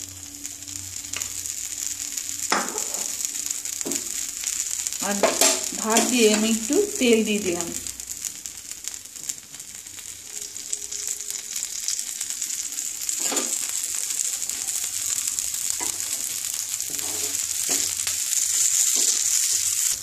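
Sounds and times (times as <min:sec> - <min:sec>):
oil sizzling in a frying pan: 0:00.0 - 0:20.0.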